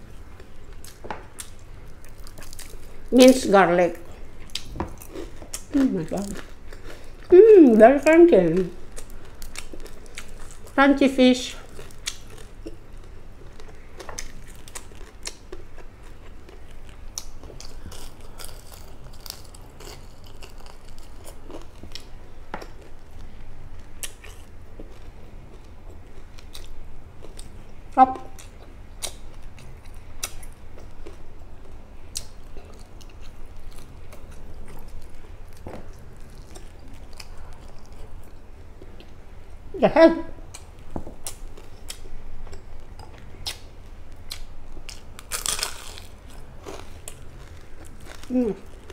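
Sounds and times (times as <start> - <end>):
chewing and crunching: 0.0 - 3.4, 4.0 - 7.4, 8.0 - 10.8, 11.4 - 39.2, 40.5 - 48.9.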